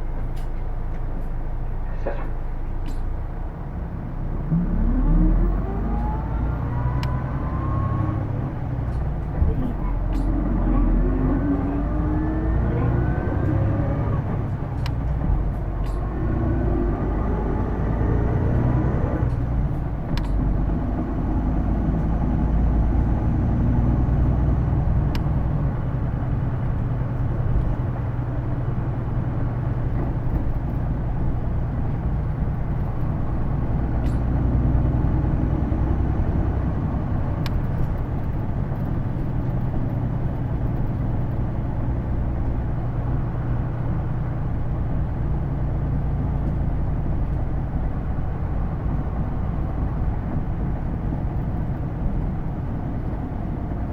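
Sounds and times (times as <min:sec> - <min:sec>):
bus diesel engine rumble: 0:00.0 - 0:53.9.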